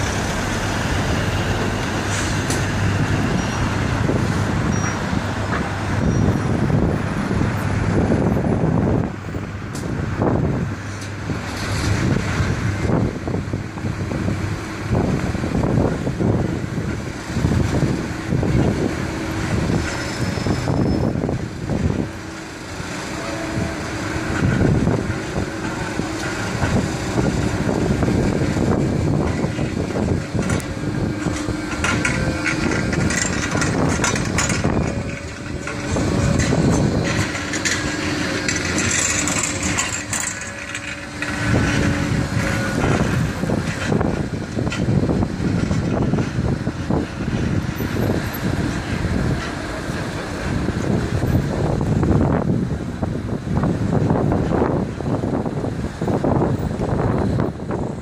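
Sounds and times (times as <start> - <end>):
road traffic rumbling: 0.0 - 58.0
tram drawing up: 0.0 - 58.0.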